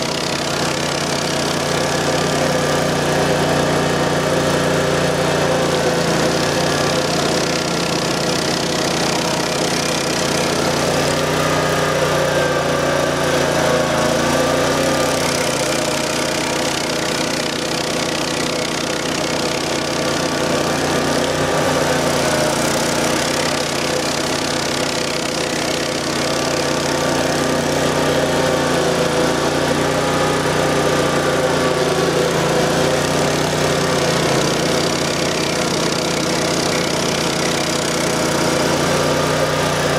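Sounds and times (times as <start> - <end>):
cutter wheel grinding stump: 0.0 - 39.9
gas engine running: 0.0 - 39.9.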